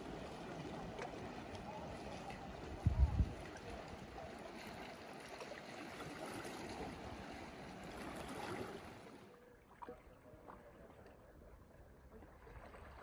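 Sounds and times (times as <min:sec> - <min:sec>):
small waves lapping on rocky shore: 0:00.0 - 0:10.7.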